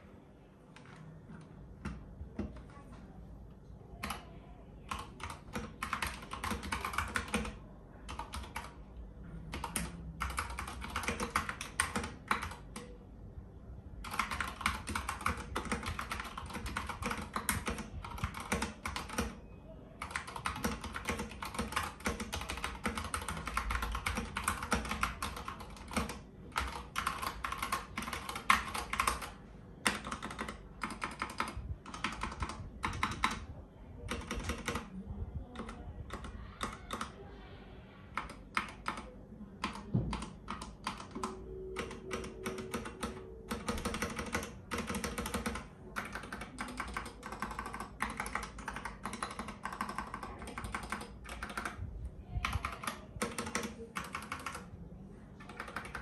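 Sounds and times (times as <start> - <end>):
mechanical keyboard typing: 4.0 - 4.3, 4.9 - 8.9, 9.5 - 13.0, 14.0 - 19.4, 20.0 - 37.2, 38.1 - 54.7, 55.4 - 56.0.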